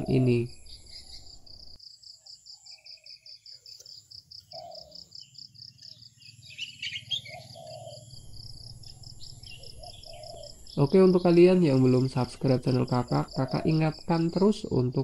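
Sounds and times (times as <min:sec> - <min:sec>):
bird chirps: 0:00.0 - 0:15.0
insects chirping: 0:00.0 - 0:15.0.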